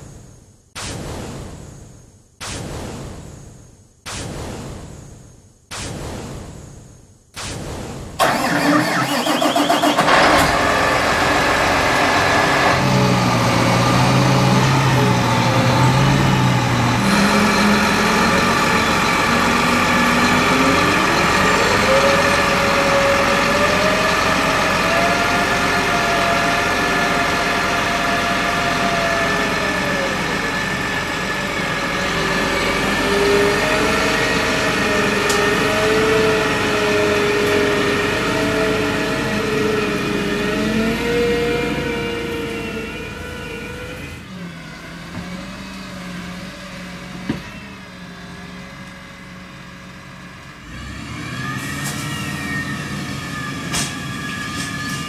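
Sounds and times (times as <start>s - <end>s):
tractor diesel engine running: 8.2s - 55.0s.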